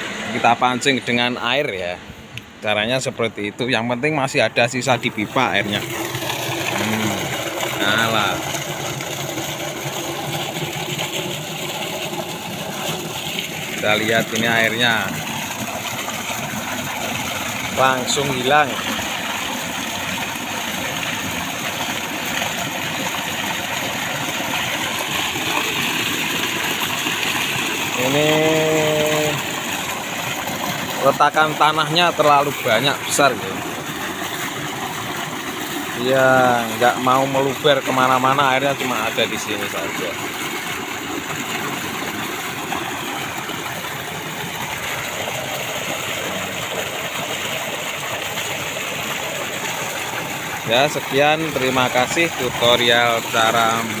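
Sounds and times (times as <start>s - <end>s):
water pouring into concrete basin: 0.0s - 54.0s.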